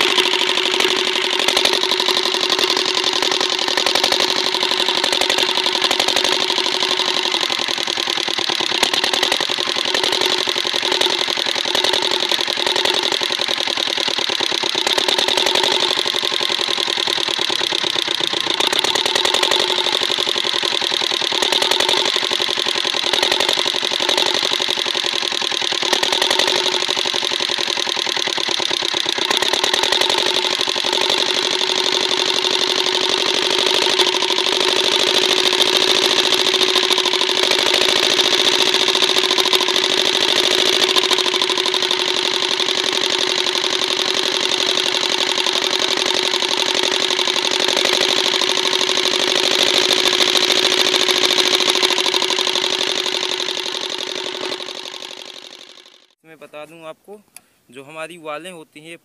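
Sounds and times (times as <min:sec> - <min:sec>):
diesel engine chugging: 0:00.0 - 0:56.8.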